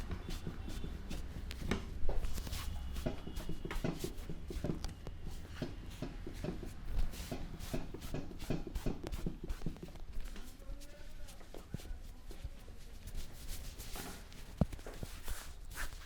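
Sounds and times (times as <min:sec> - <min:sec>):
hands patting and rubbing hair: 0:00.0 - 0:16.0.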